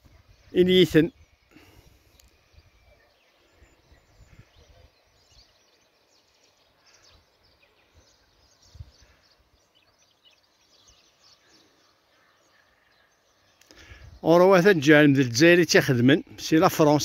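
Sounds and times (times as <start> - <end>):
faint high chirps: 0.0 - 14.0.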